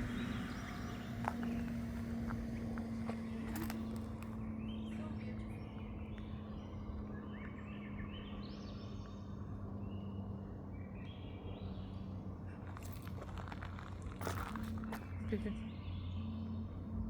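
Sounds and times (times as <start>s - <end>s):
small birds chirping: 0.0s - 16.8s
steady low hum: 0.0s - 17.0s.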